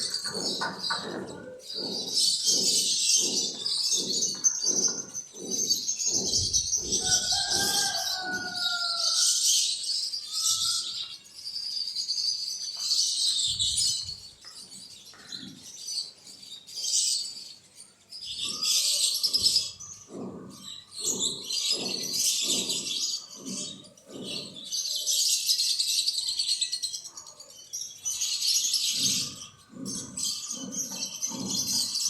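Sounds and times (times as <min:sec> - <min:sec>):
lower repeated bird calls: 0:00.0 - 0:32.0
small birds chirping: 0:00.0 - 0:32.0.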